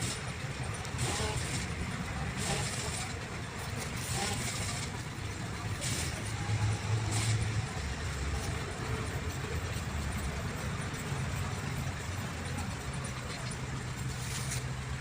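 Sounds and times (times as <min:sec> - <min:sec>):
motor running steadily: 0:00.0 - 0:15.0.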